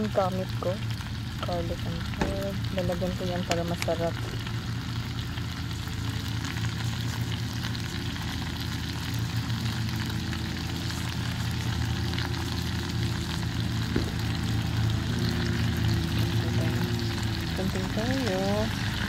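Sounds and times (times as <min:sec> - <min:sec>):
low engine-like drone: 0:00.0 - 0:19.0
shrimp sizzling in a skillet: 0:00.0 - 0:19.0.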